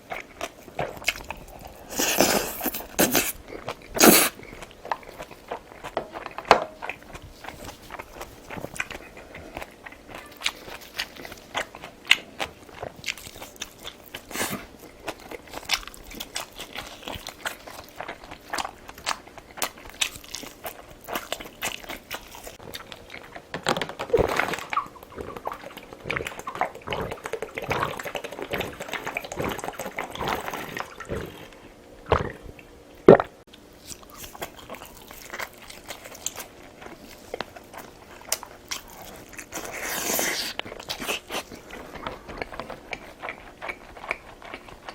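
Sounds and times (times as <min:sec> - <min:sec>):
chewing and mouth clicks: 0:00.0 - 0:44.9.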